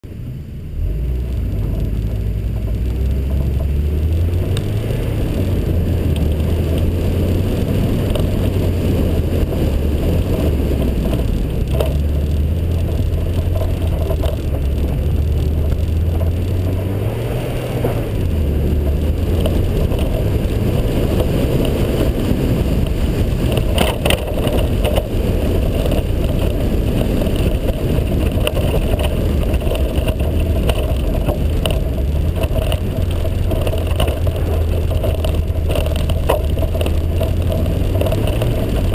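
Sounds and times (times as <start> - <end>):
car engine revving: 0.1 - 38.9.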